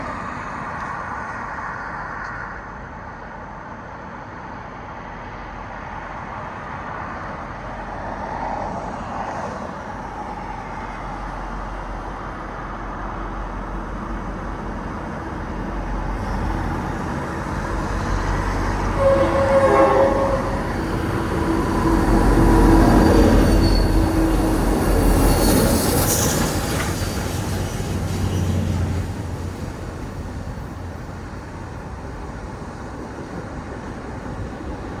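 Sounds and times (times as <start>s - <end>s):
highway traffic rumble: 0.0s - 35.0s.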